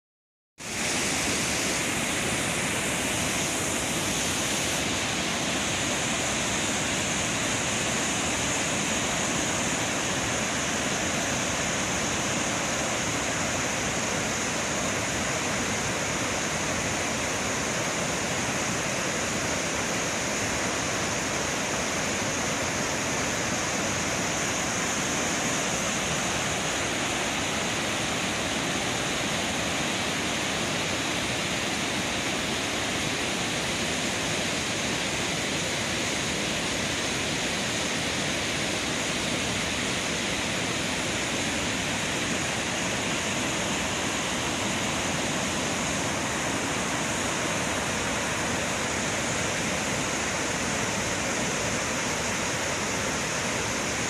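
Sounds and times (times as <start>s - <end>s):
waterfall rushing over rocks: 0.6s - 54.0s.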